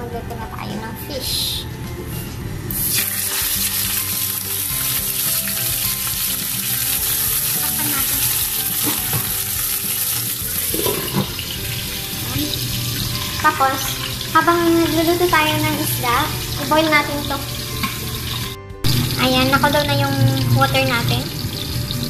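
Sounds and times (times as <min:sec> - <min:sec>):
fish sizzling in hot oil: 0:02.7 - 0:22.0.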